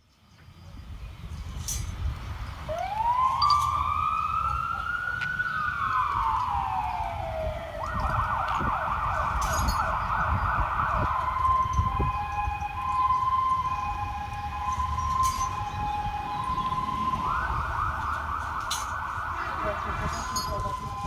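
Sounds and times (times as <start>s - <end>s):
fire engine siren: 2.6s - 21.0s.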